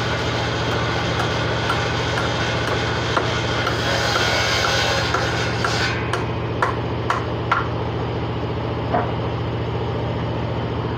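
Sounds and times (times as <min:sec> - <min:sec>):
motor humming: 0:00.0 - 0:10.9.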